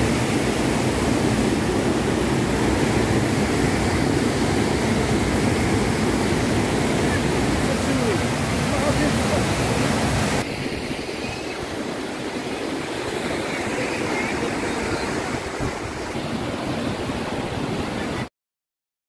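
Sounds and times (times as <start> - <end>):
white water rushing over rapids: 0.0 - 18.3.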